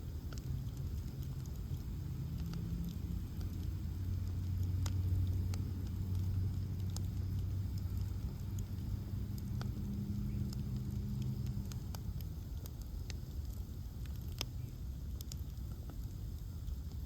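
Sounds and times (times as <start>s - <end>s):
bonfire crackling and popping: 0.0s - 17.0s
low hum: 0.0s - 17.0s.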